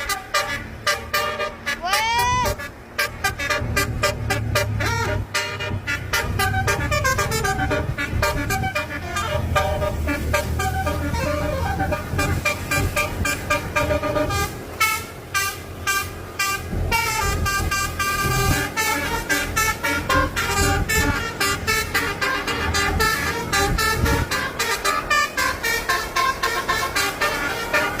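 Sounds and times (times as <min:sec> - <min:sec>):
multi-tone horn melody: 0:00.0 - 0:28.0.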